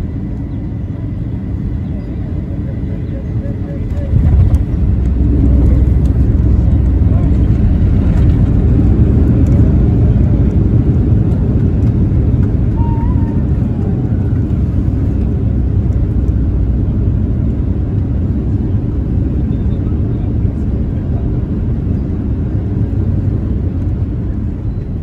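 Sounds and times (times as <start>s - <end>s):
aircraft cabin rumble: 0.0s - 25.0s.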